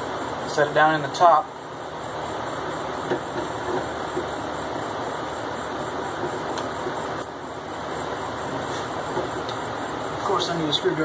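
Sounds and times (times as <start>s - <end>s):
fan whooshing: 0.0s - 11.0s.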